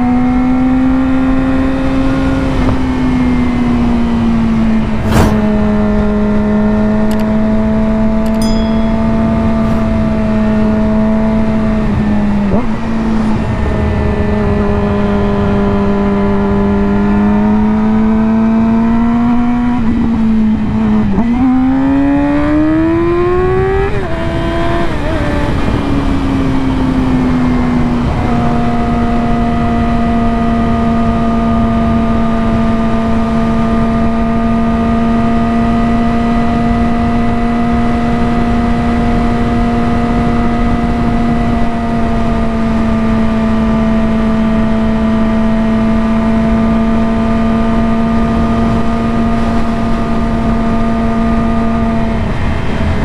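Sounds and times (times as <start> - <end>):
motorcycle engine revving: 0.0 - 53.0
wind noise: 0.0 - 53.0.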